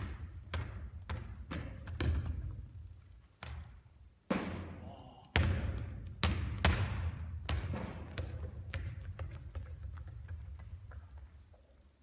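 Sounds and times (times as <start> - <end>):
basketball bouncing on hard floor: 0.0 - 2.8, 3.4 - 4.7, 5.4 - 11.6.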